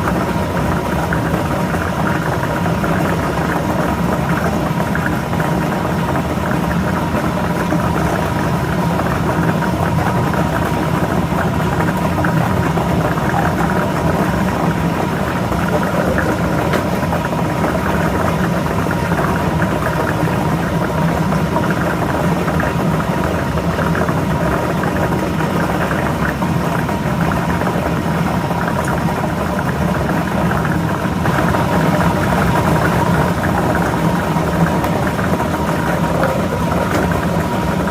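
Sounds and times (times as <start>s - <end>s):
blower hum: 0.0s - 37.9s.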